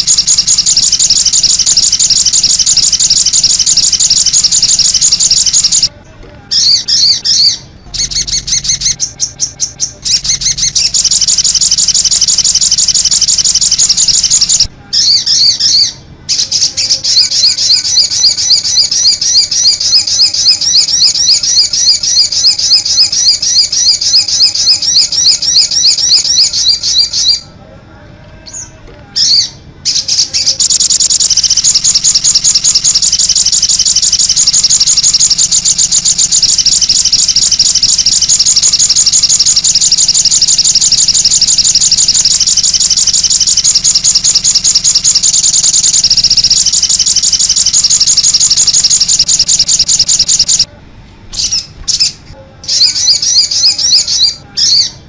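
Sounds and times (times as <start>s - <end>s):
bird chirping and trilling: 0.0s - 5.9s, 6.5s - 27.5s, 28.5s - 50.7s, 51.3s - 55.0s.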